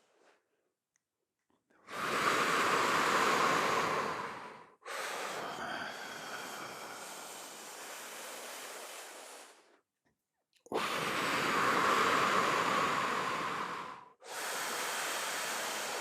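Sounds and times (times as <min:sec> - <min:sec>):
deep breaths close to microphone: 0:01.8 - 0:09.8, 0:10.7 - 0:16.0.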